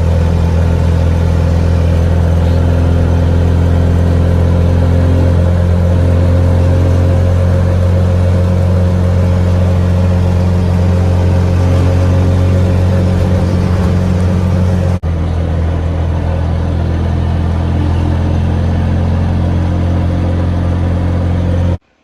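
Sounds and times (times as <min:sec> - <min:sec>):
motor tricycle engine droning: 0:00.0 - 0:22.0.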